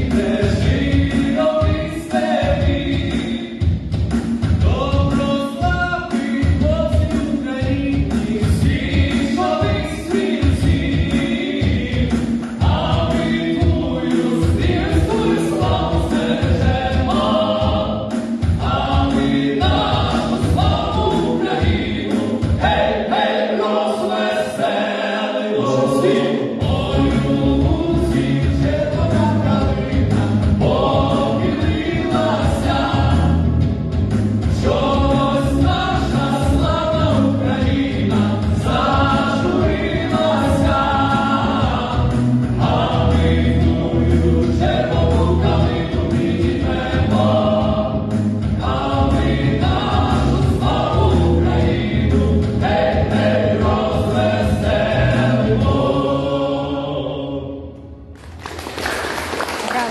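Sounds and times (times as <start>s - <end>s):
song with choir-like voices: 0.0s - 59.9s.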